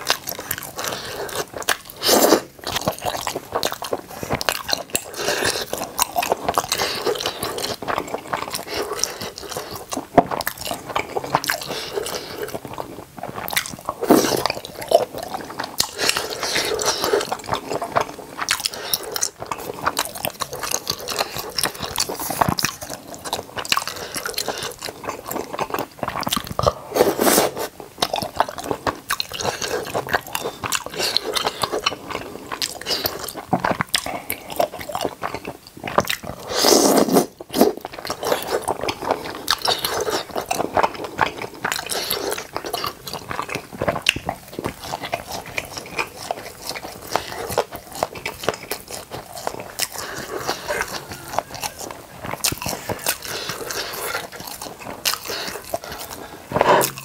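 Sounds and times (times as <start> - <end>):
biting and chewing: 0.0 - 57.0.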